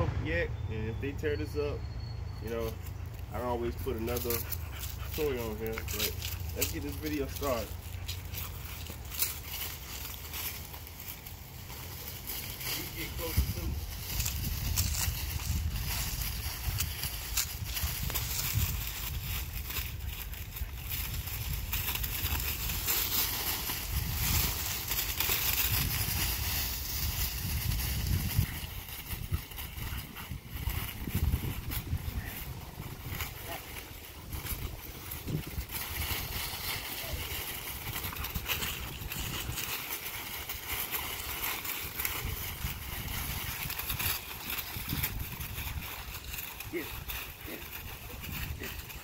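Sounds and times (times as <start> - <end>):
constant low rumble: 0.0 - 49.0
dry leaves crunching and rustling: 2.6 - 49.0.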